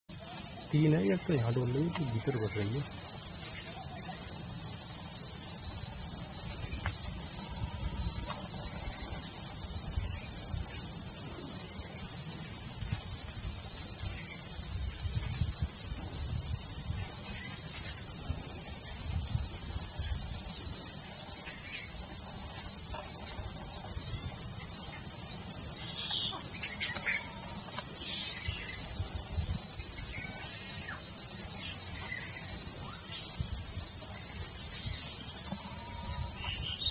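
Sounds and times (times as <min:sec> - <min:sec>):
shrill insect chorus: 0:00.1 - 0:36.9.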